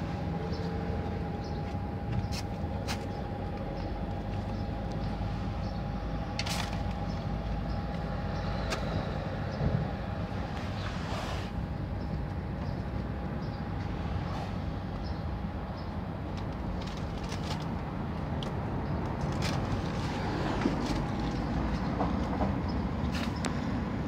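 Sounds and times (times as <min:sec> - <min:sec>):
low urban rumble: 0:00.0 - 0:24.0.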